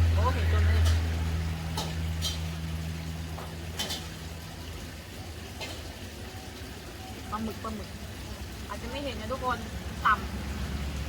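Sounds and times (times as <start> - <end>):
broth bubbling in clay pot: 0.0 - 11.0.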